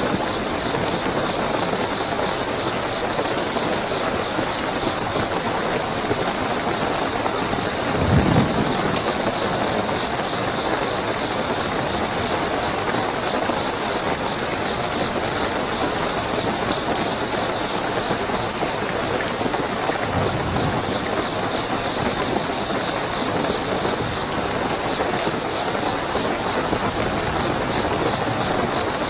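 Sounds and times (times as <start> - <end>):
crickets chirring: 0.0 - 29.0
heavy rain: 0.0 - 29.0.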